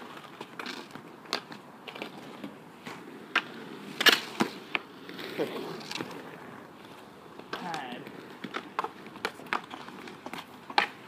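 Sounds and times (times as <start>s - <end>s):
inline skate wheels rolling: 0.0s - 11.0s.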